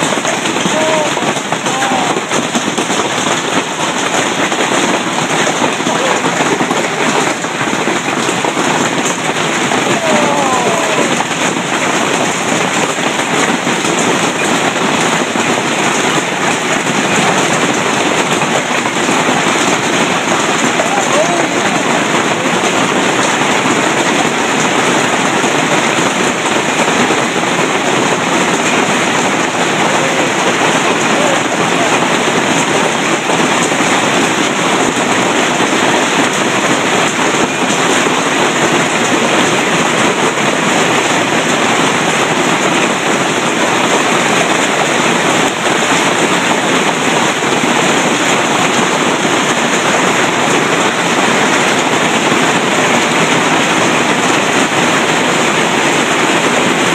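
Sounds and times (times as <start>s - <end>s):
hail clattering: 0.0s - 56.9s.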